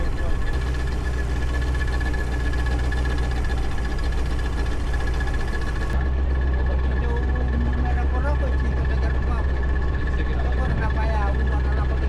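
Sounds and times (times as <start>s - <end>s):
engine humming with whine: 0.0s - 12.0s.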